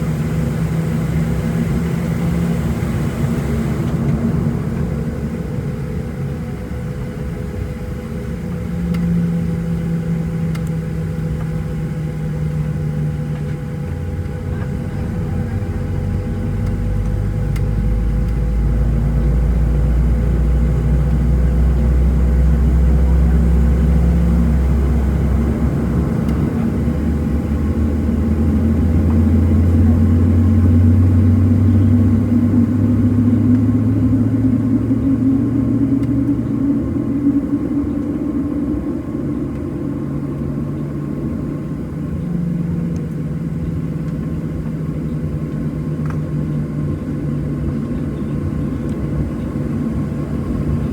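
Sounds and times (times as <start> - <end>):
deep rumble: 0.0 - 50.9
jet engine cabin hum: 0.0 - 50.9.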